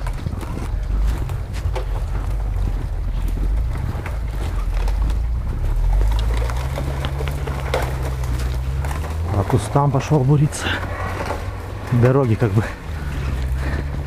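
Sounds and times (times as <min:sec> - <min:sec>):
car engine revving: 0:00.0 - 0:14.0
crackling clicks: 0:00.0 - 0:14.0.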